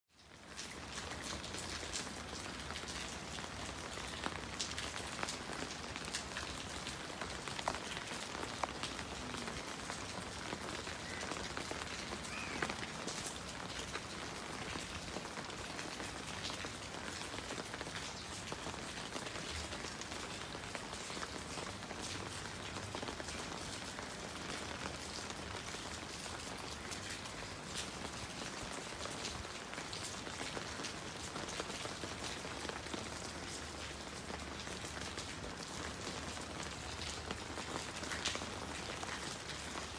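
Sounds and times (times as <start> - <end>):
steady rain on rooftop: 0.1 - 39.9.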